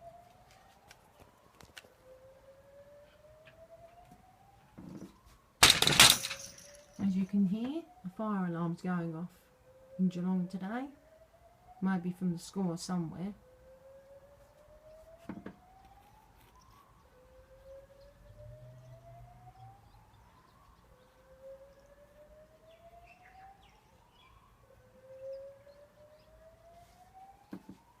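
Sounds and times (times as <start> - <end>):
distant fire alarm whooping: 0.0 - 28.0.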